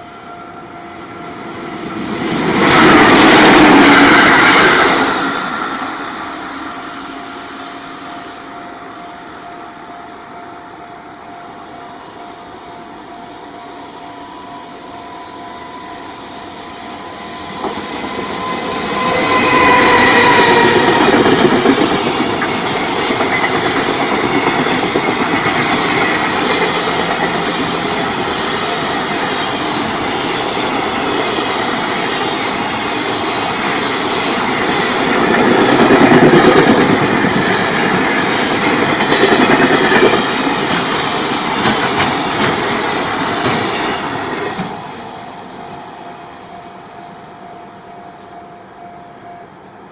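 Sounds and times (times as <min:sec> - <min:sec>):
freight train passing: 0:00.0 - 0:49.9.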